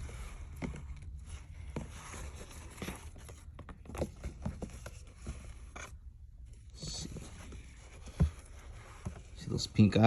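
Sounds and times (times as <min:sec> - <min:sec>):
handling taps and rustles: 0:00.0 - 0:06.0, 0:06.8 - 0:09.7.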